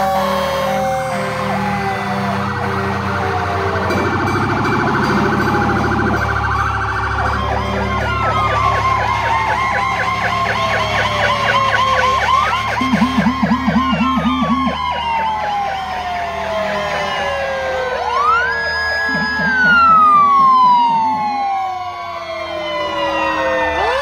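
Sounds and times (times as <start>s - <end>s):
fire truck sirens: 0.0s - 24.0s
truck engines rumbling: 0.0s - 24.0s.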